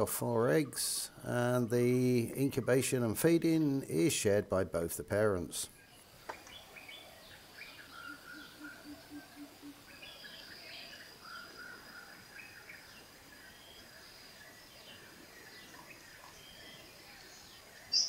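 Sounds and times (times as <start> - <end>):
forest birds chirping: 0.0 - 18.0.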